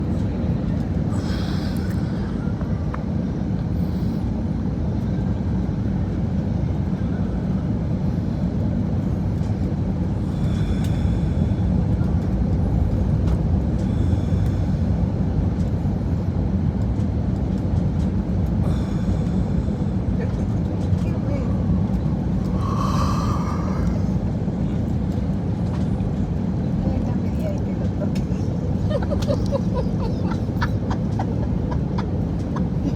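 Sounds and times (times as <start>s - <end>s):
airliner cabin roar: 0.0s - 32.9s.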